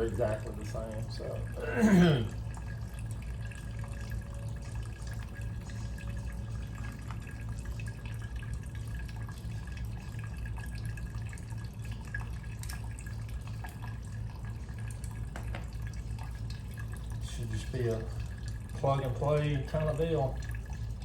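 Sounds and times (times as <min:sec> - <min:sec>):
fuel dripping: 0:00.0 - 0:21.0
steady low hum: 0:00.0 - 0:21.0.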